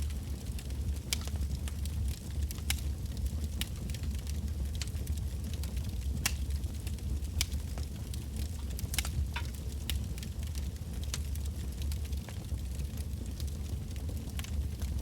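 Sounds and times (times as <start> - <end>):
bonfire crackling and popping: 0.0 - 15.0
low rumble of fire: 0.0 - 15.0.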